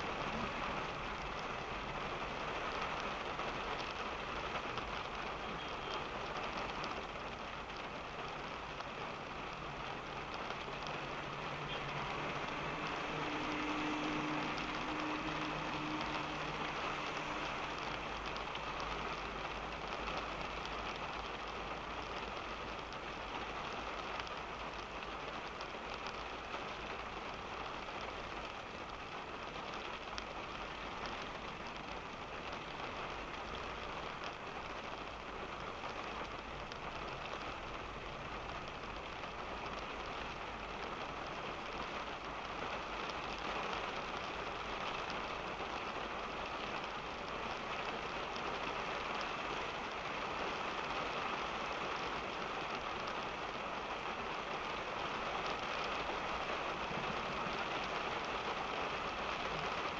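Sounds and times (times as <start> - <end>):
low rumble of car: 0.0 - 59.9
rain on car body and glass: 0.0 - 59.9.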